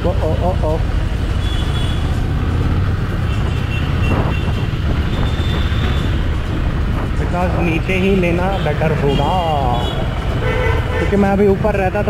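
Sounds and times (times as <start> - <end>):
road noise: 0.0 - 12.0
motorcycle engine droning: 0.5 - 12.0.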